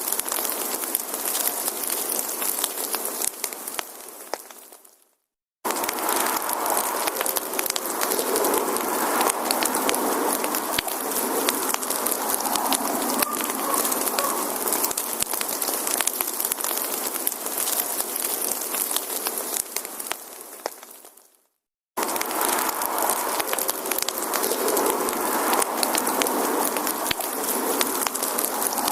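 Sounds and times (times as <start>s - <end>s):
campfire crackling and hissing: 0.0s - 28.9s.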